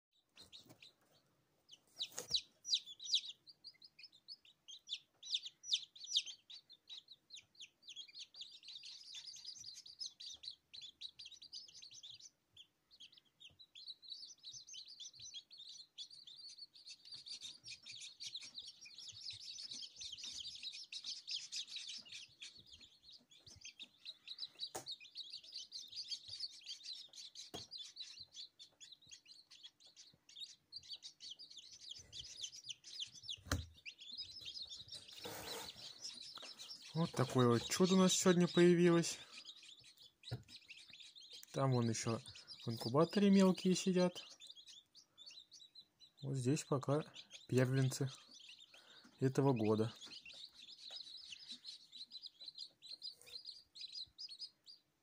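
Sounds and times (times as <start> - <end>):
chicks peeping: 0.2 - 55.0.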